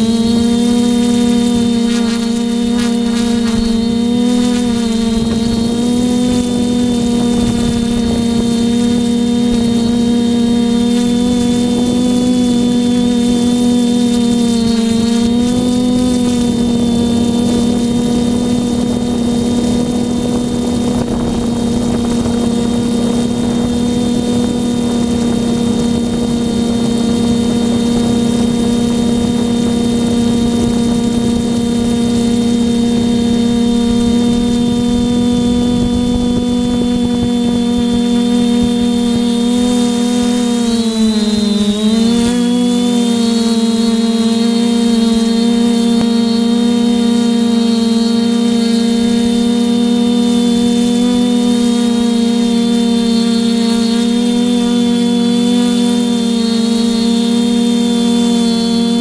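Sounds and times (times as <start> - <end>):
drone propellers humming: 0.0 - 59.0.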